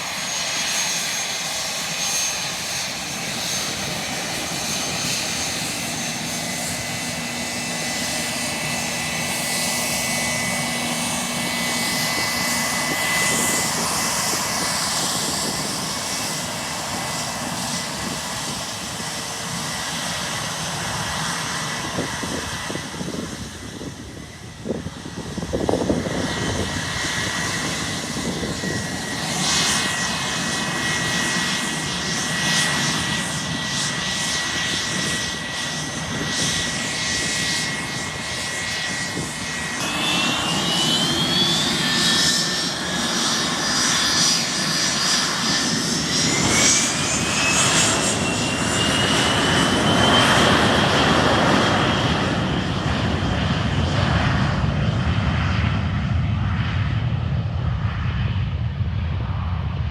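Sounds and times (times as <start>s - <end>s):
jet engine roar: 0.0s - 59.9s
jet engine whine: 0.0s - 59.9s.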